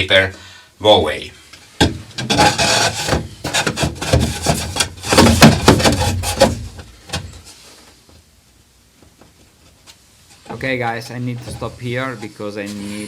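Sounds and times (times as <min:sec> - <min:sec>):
wooden knocks and scraping: 0:01.6 - 0:08.3, 0:09.0 - 0:13.0.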